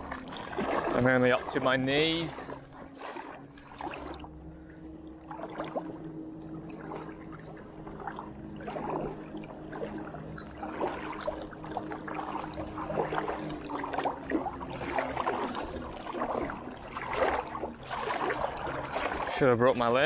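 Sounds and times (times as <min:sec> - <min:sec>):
low hum: 0:00.0 - 0:20.0
wading through water: 0:00.0 - 0:20.0.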